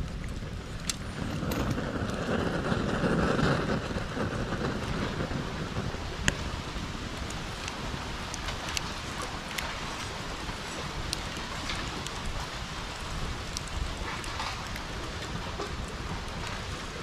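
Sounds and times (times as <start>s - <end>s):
bonfire burning: 0.0s - 17.0s
fire crackling and popping: 0.0s - 17.0s.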